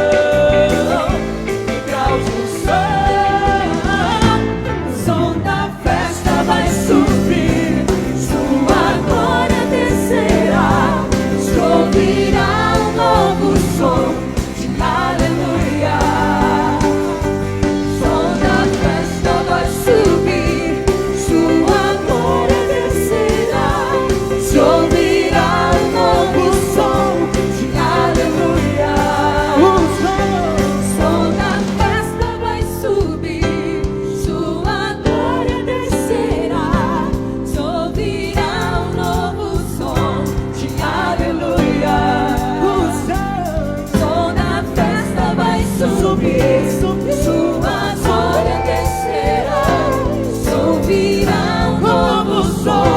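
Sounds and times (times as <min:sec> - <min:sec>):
bass: 0:00.0 - 0:52.9
drums: 0:00.0 - 0:52.9
voices singing worship song: 0:00.0 - 0:52.9.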